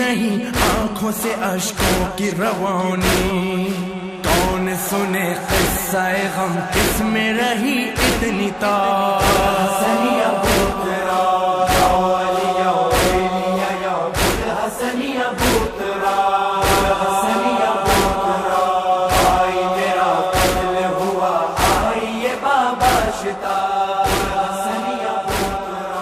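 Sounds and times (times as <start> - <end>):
crowd chanting in unison: 0.0 - 26.0.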